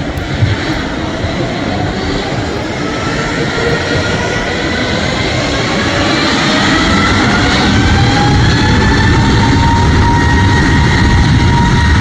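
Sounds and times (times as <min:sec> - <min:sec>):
jet engines whining and roaring: 0:00.0 - 0:12.0.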